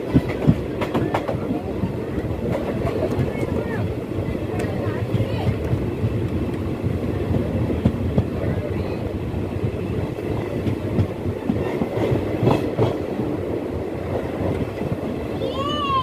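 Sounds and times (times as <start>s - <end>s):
train wheels rattling over rails: 0.0s - 16.0s.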